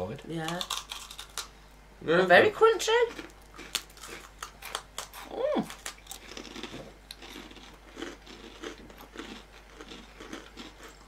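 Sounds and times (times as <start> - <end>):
crunching crispbread: 0.4 - 1.5, 3.1 - 11.0.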